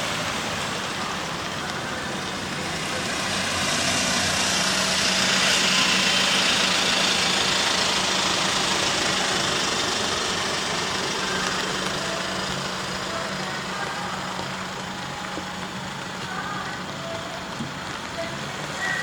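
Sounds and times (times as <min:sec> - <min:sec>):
low engine hum: 0:00.0 - 0:19.0
vehicle passing: 0:00.0 - 0:19.0.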